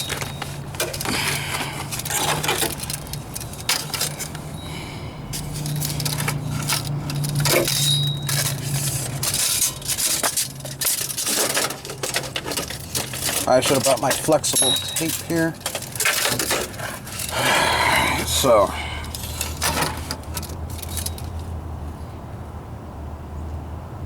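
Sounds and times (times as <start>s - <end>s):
tape measure scraping metal: 0.0s - 4.6s, 5.3s - 21.5s.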